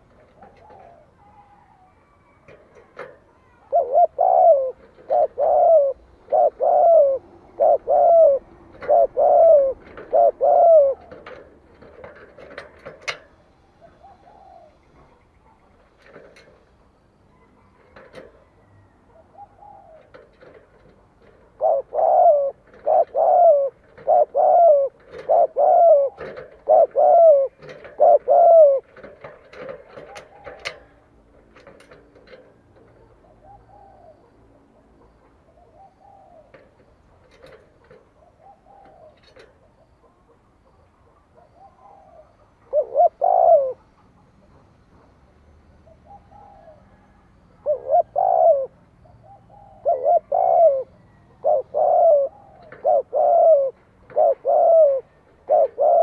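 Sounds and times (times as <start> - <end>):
dove cooing: 0.0 - 16.7, 17.3 - 56.0.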